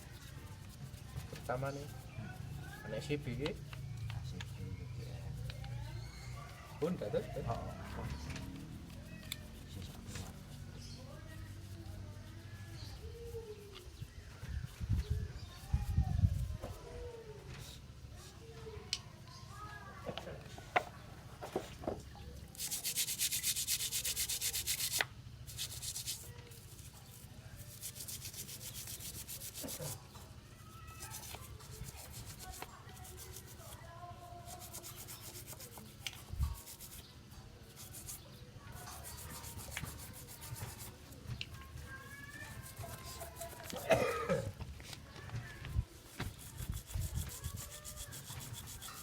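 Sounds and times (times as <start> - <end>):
rhythmic hand rubbing on metal: 0.0 - 16.9, 22.4 - 44.1, 45.8 - 49.0.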